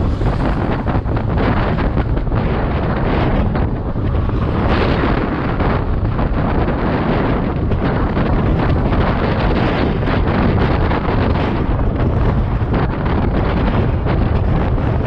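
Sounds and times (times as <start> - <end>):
wind roaring over microphone: 0.0 - 15.0.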